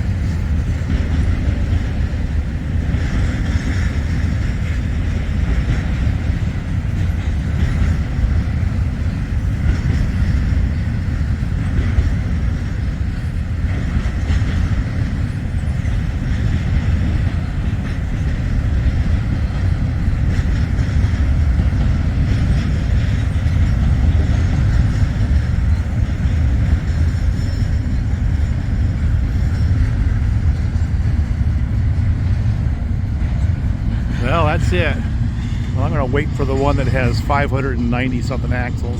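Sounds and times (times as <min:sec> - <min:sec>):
wheels clacking over rail joints: 0:00.0 - 0:37.6
freight train rumbling past: 0:00.0 - 0:38.9.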